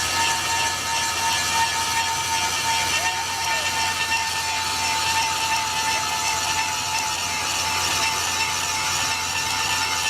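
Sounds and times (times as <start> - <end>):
machinery crackling rattle: 0.0 - 10.0.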